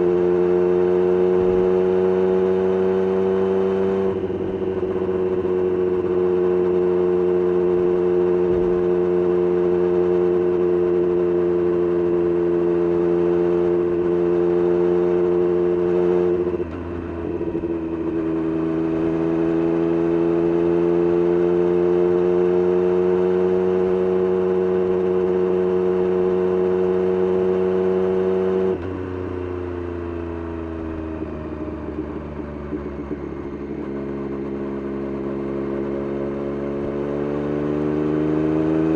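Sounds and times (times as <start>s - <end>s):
motorcycle engine under throttle: 0.0s - 38.9s.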